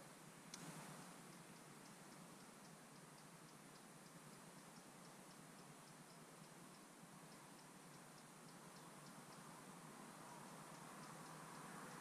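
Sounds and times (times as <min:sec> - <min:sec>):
faint steady hiss: 0:00.0 - 0:12.0
high-pitched ticking: 0:00.6 - 0:12.0.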